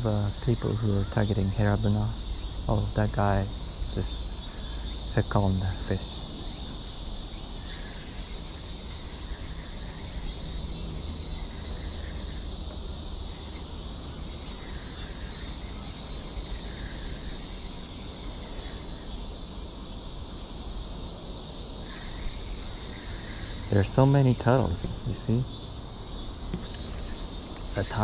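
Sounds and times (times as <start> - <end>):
constant low rumble: 0.0 - 28.0
insects chirring: 0.0 - 28.0.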